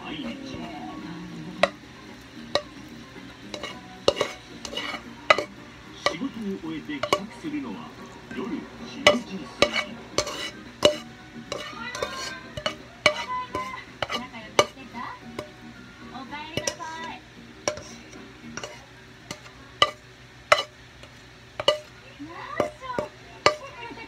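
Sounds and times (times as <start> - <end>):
utensil scraping frying pan: 0.0 - 24.0.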